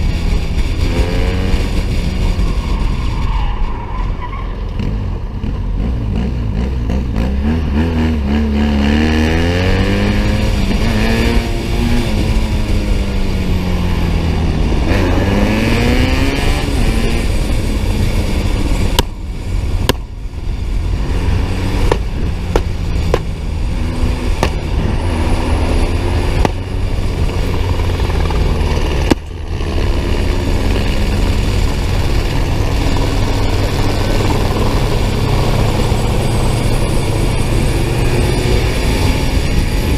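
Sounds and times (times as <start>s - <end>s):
motorcycle engine revving: 0.0s - 3.3s, 4.7s - 39.9s.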